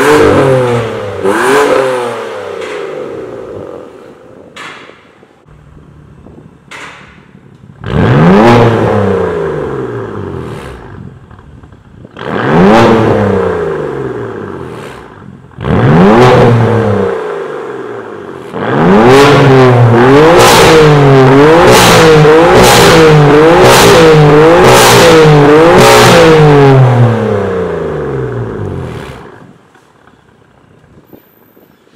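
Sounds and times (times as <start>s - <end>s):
car engine revving: 0.0s - 4.7s, 7.4s - 29.8s
exhaust pops: 0.0s - 31.4s.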